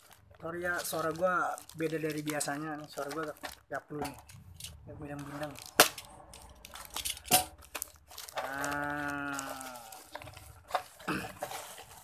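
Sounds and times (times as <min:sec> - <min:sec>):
plastic wrapping tearing and crinkling: 0:00.0 - 0:12.0.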